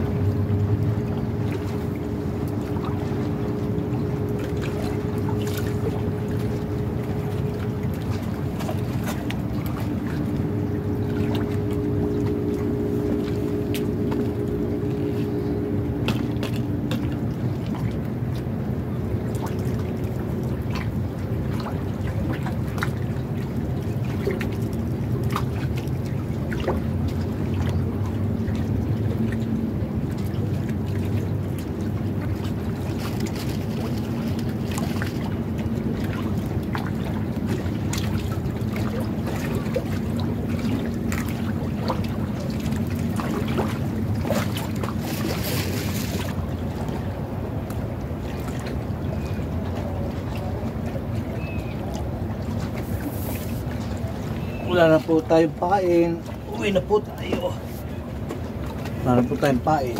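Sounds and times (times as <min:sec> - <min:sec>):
boat engine rumbling: 0:00.0 - 0:59.9
faint constant hum: 0:00.0 - 0:59.9.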